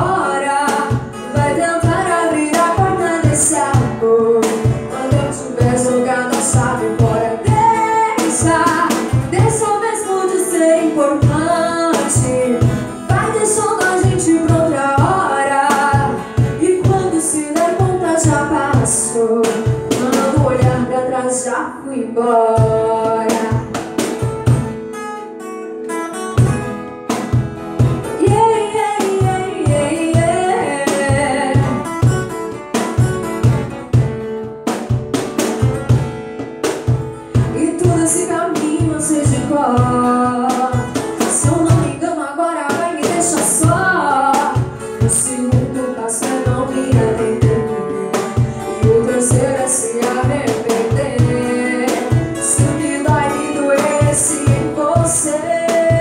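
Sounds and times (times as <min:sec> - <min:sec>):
cajon beat: 0:00.0 - 0:21.5, 0:22.5 - 0:56.0
woman singing: 0:00.0 - 0:24.6, 0:27.8 - 0:32.8, 0:37.2 - 0:56.0
strummed acoustic guitars: 0:00.0 - 0:56.0.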